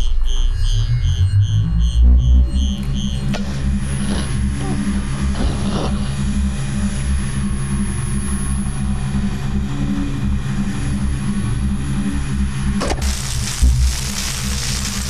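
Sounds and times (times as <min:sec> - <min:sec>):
electrical apparatus humming: 0:00.0 - 0:15.0.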